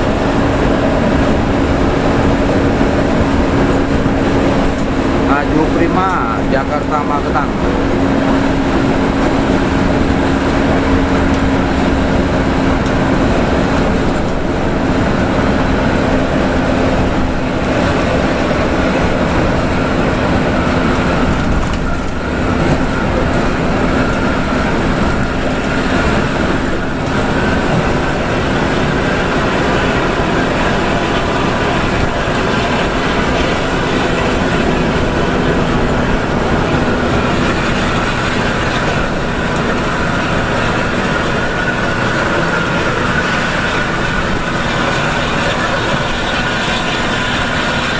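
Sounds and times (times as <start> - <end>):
bus engine droning: 0.0 - 47.9
tyre and road noise: 0.0 - 47.9.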